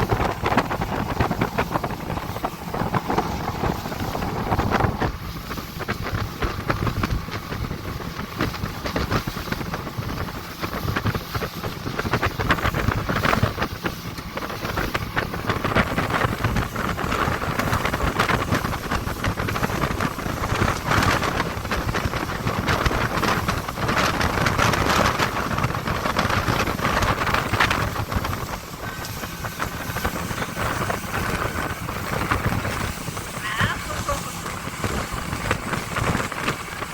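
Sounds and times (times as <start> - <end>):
motorboat engine running: 0.0 - 36.9
wind buffeting microphone: 0.0 - 36.9.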